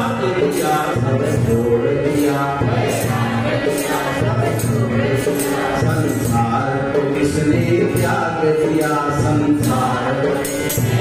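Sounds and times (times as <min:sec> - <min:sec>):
harmonium melody: 0:00.0 - 0:11.0
jingling hand percussion: 0:00.0 - 0:11.0.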